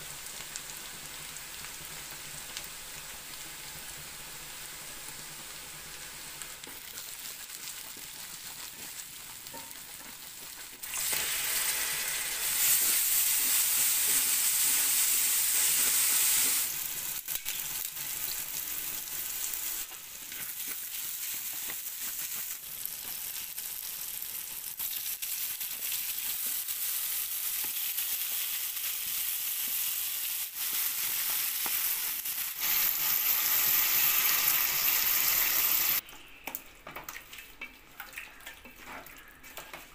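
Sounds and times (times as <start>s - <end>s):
masala sizzling in oil: 0.0s - 36.0s
water hissing in hot pan: 0.0s - 36.0s.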